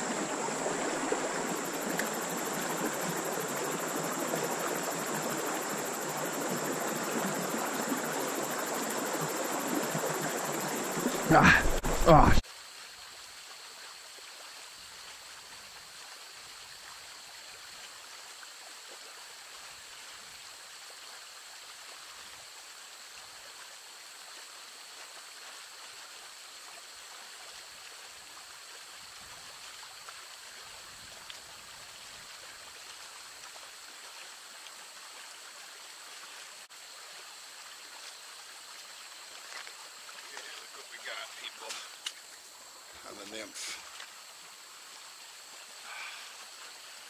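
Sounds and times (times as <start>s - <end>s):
stream water running: 0.0s - 47.0s.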